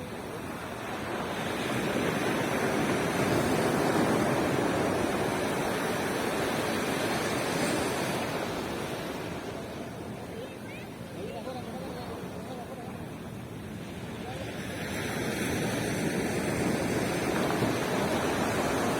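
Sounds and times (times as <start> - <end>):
wave breaking on beach: 0.0 - 18.9.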